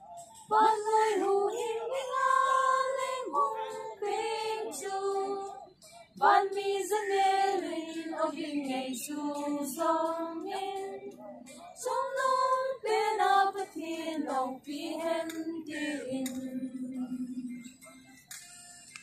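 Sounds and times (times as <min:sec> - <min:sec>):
women singing together: 0:00.4 - 0:17.9.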